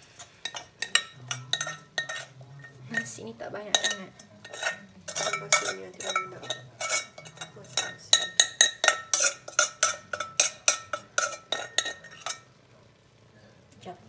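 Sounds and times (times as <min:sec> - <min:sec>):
metal utensil scraping steel pot: 0:00.0 - 0:12.6.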